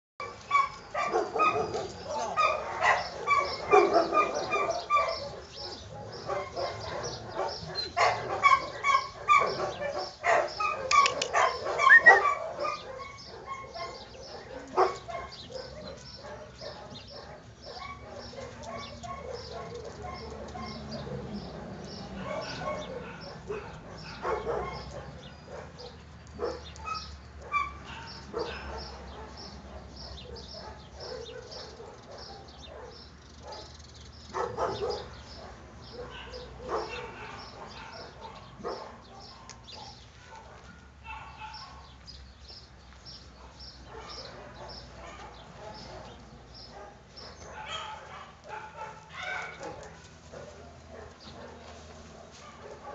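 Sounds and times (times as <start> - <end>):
dogs barking and yipping: 0.2 - 42.5, 43.2 - 52.9.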